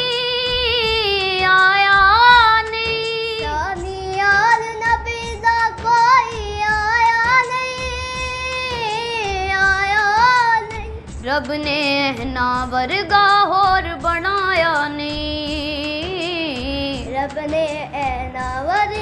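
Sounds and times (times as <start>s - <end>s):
boys singing: 0.0s - 19.0s.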